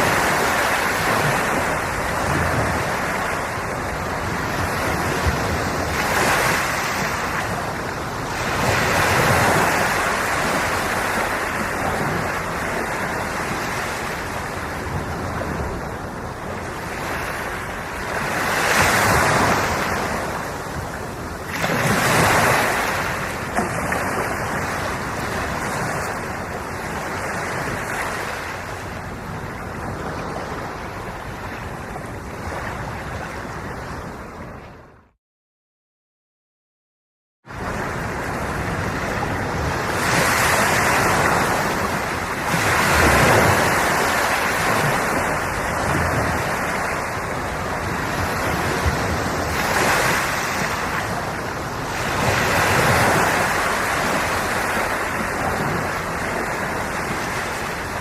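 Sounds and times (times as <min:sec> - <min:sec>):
ocean waves rushing: 0:00.0 - 0:34.5, 0:37.5 - 0:58.0.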